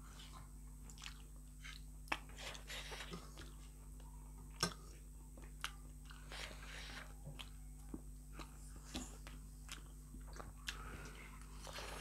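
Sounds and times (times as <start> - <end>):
people chewing and eating: 0.0 - 12.0.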